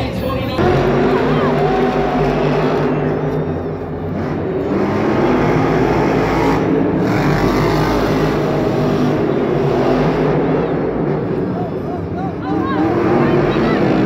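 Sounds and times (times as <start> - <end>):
monster truck engines running: 0.0 - 14.0.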